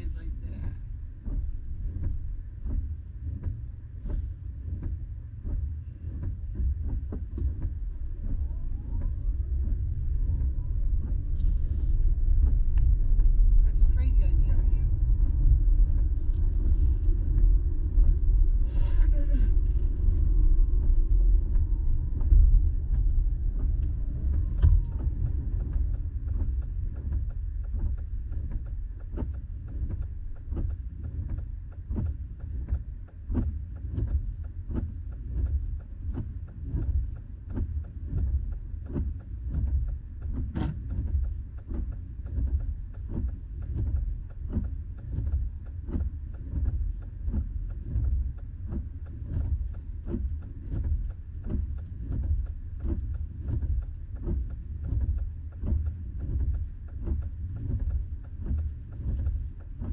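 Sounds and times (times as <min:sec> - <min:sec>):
car road and engine rumble: 0:00.0 - 0:59.9
turn signal ticking: 0:00.0 - 0:59.9.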